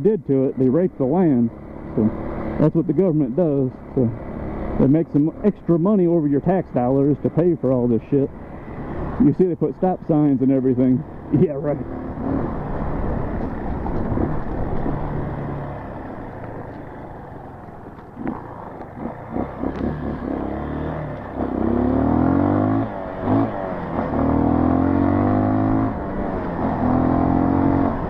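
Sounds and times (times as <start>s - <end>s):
dirt bike engine running: 0.1s - 28.0s.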